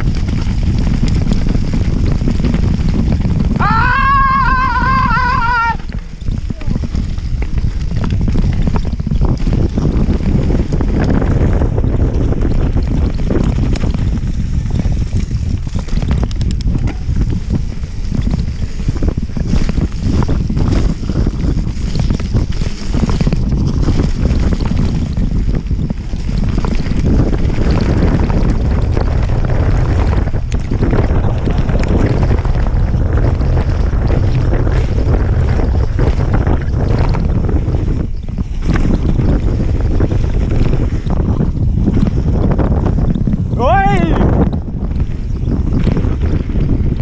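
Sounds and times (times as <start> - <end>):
bike rattles and knocks: 0.0 - 47.0
tyres rumbling on dirt: 0.0 - 47.0
wind buffeting microphone: 0.0 - 47.0.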